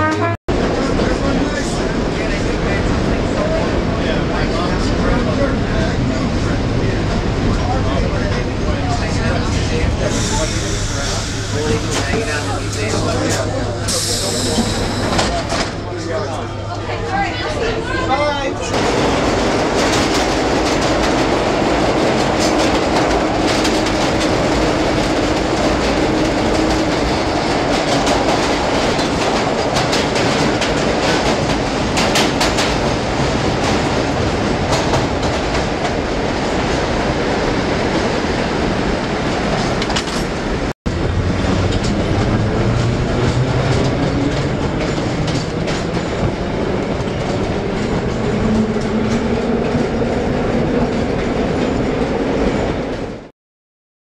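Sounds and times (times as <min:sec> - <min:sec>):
subway train rumbling in tunnel: 0:00.0 - 0:53.3.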